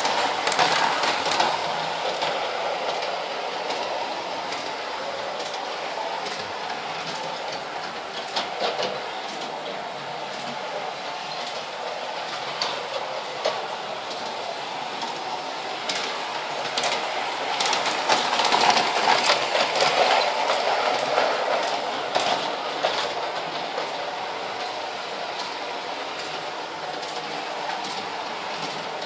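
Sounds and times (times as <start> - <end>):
model train wheels clicking: 0.0 - 29.0.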